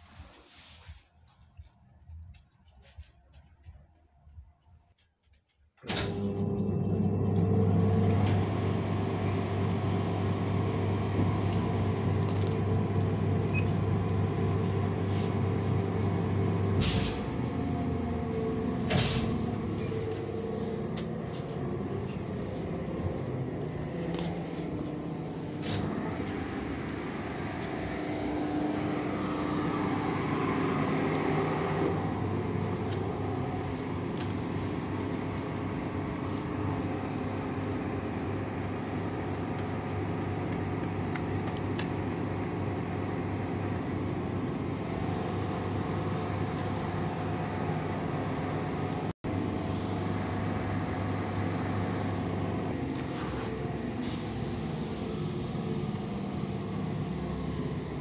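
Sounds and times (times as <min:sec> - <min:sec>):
train electrical hum: 0:00.0 - 0:58.0.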